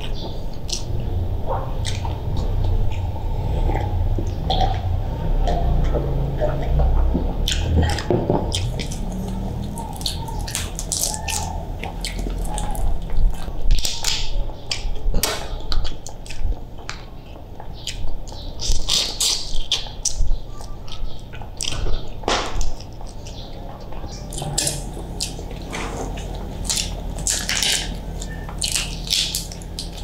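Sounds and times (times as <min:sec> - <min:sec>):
chewing and lip smacking: 0:00.0 - 0:30.0.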